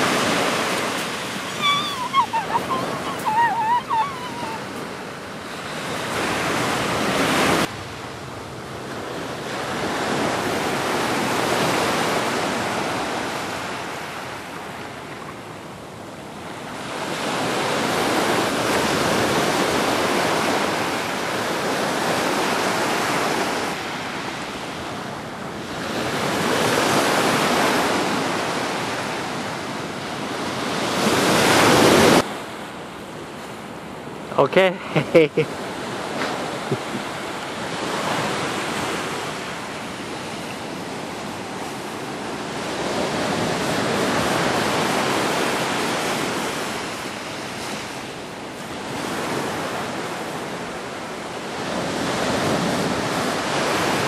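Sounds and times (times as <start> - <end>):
ocean surf washing ashore: 0.0 - 54.0.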